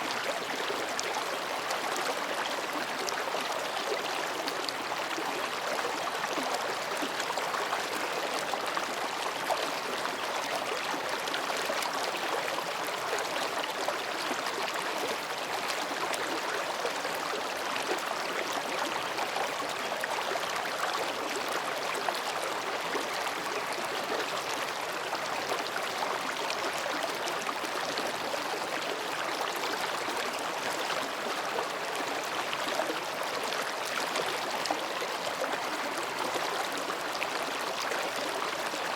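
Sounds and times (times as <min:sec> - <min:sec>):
stream babbling between rocks: 0:00.0 - 0:38.9.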